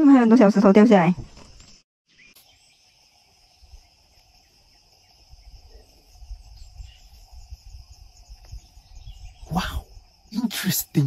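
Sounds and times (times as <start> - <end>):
high-pitched insect chorus: 1.6 - 11.0.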